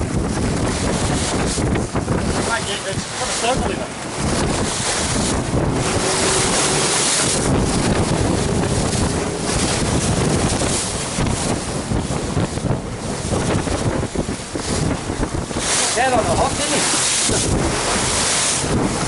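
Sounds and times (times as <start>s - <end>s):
sea water splashing along hull: 0.0s - 19.0s
wind buffeting microphone: 0.0s - 19.0s.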